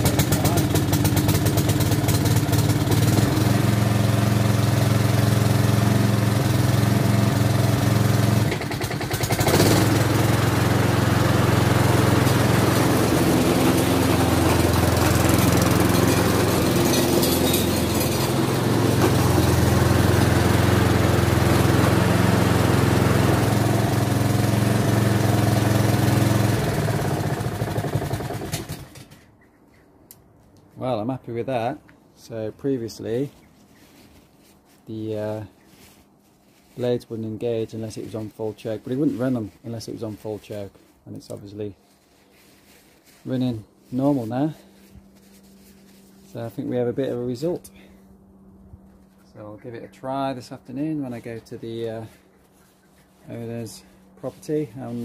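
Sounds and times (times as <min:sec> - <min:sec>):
lawnmower engine running: 0:00.0 - 0:29.2, 0:38.0 - 0:49.2, 0:49.9 - 0:55.0.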